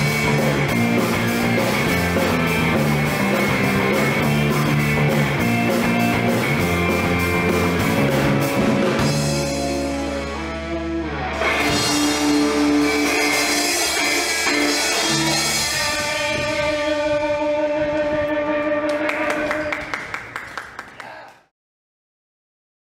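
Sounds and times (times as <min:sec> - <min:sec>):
electric guitars holding chord: 0:00.0 - 0:19.9.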